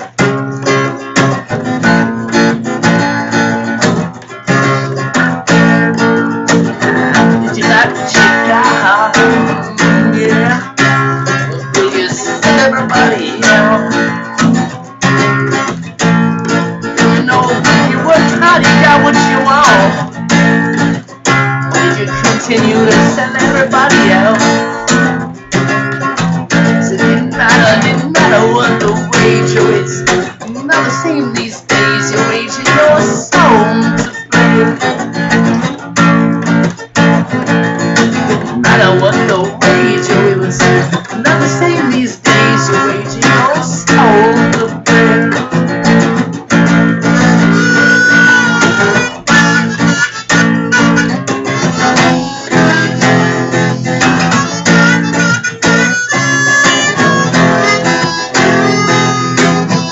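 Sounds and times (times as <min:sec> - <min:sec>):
acoustic guitar strumming: 0:00.0 - 0:59.9
harmonica playing melody: 0:00.0 - 0:59.9.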